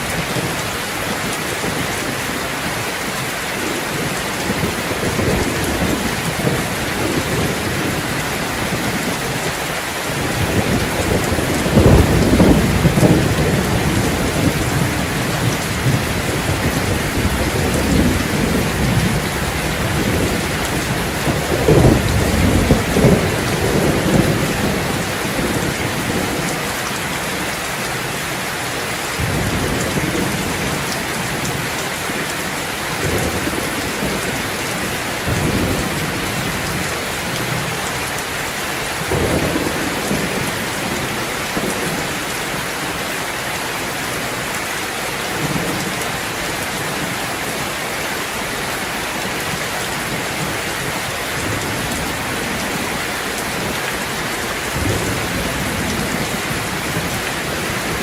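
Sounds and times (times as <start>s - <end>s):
heavy rain on hard surfaces: 0.0s - 58.0s.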